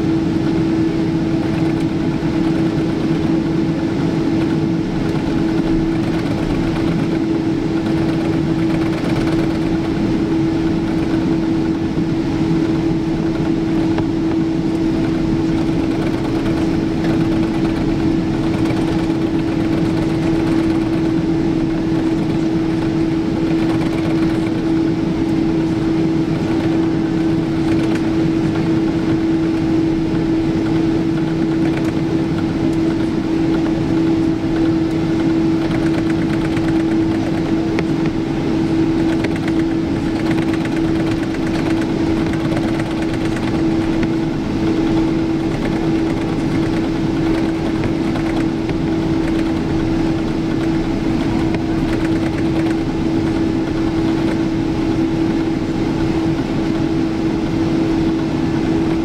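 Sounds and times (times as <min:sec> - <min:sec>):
jet engine cabin hum: 0:00.0 - 0:59.0.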